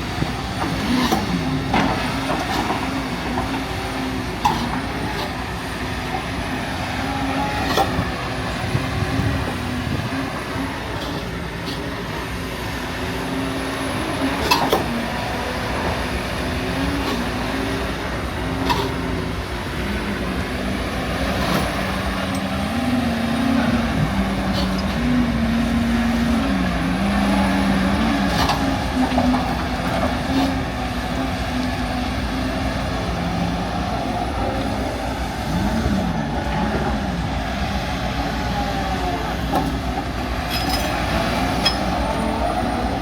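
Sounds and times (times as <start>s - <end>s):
excavator engine and hydraulics: 0.0s - 43.0s.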